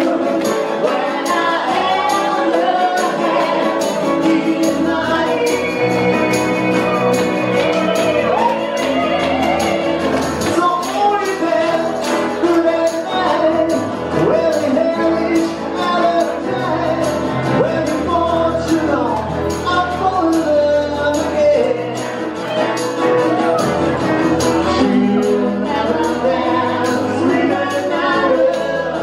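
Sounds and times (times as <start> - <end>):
acoustic guitar: 0.0 - 29.0
people singing: 0.0 - 29.0
steady percussion beat: 0.0 - 29.0.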